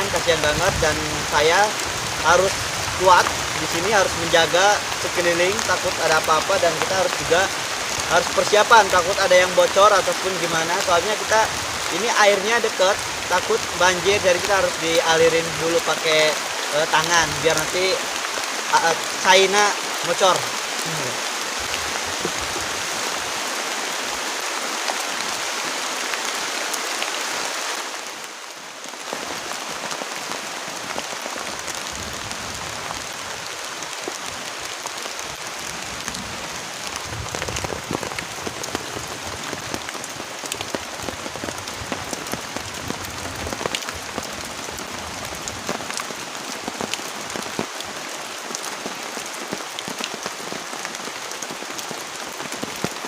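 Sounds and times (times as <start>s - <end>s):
heavy rain hiss: 0.0s - 53.0s
sharp raindrop impacts: 0.1s - 53.0s.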